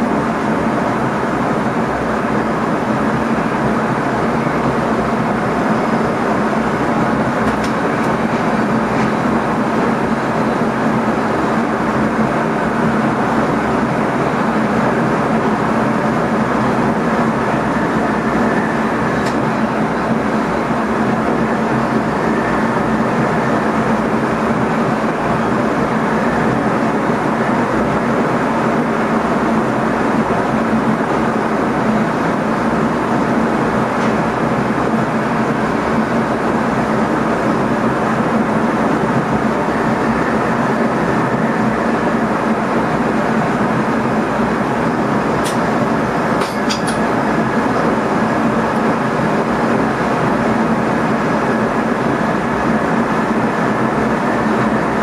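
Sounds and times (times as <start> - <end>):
constant hum: 0.0 - 55.0
electric train running: 0.0 - 55.0.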